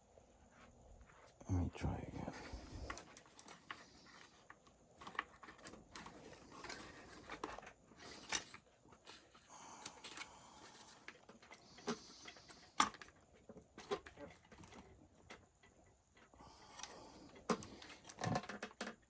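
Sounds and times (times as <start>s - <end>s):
faint clicks of plastic parts: 1.9s - 19.0s.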